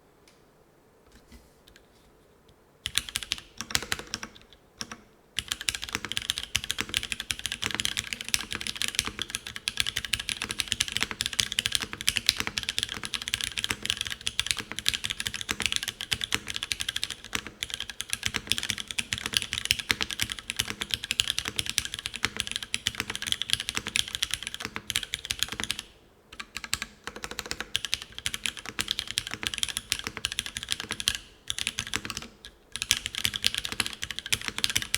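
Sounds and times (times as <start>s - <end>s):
mechanical keyboard typing: 2.8s - 34.9s.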